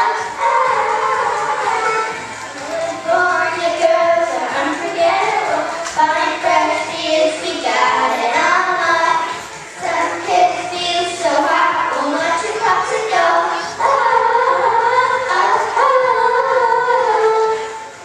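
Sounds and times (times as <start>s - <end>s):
girls singing together: 0.0s - 18.0s.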